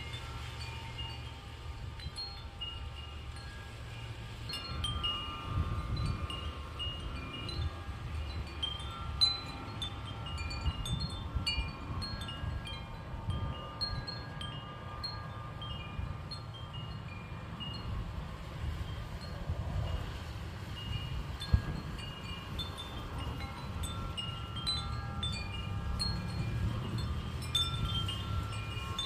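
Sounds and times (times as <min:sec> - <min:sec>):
wind chimes ringing: 0:00.0 - 0:29.0
wind rumbling on microphone: 0:00.0 - 0:29.0.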